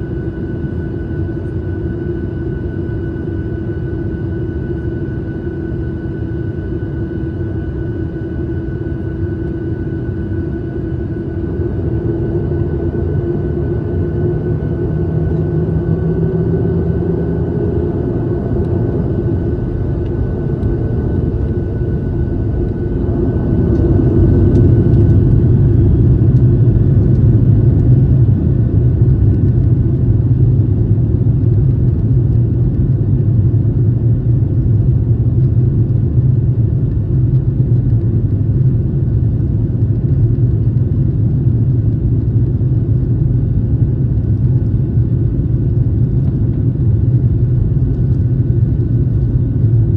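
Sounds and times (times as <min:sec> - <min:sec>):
airliner engine rumble: 0:00.0 - 0:49.9.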